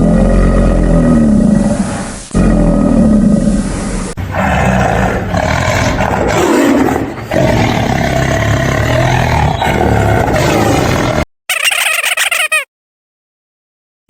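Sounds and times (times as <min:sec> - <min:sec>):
big cat roaring: 0:00.0 - 0:11.3.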